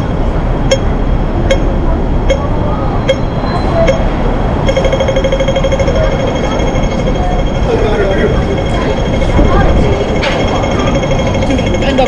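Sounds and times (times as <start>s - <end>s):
crossing signal beeping: 0.0s - 12.0s
traffic rumble: 0.0s - 12.0s.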